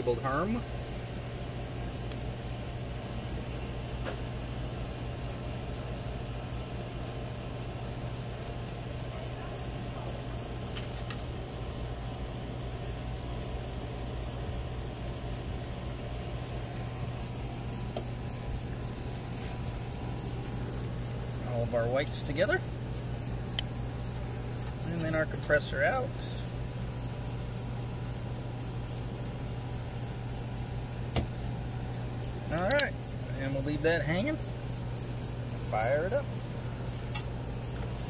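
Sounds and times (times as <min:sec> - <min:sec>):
constant hiss: 0:00.0 - 0:38.0
low mechanical hum: 0:00.0 - 0:38.0.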